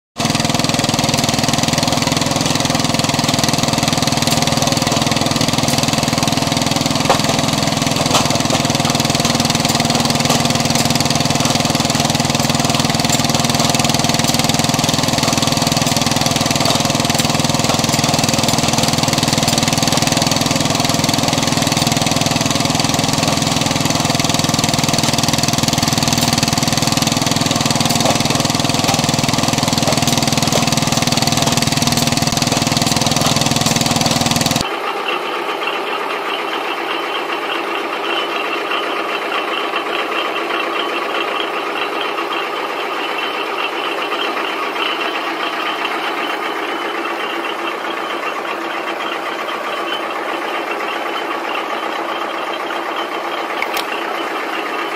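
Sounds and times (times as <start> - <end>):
log splitter engine running: 0.2 - 54.9.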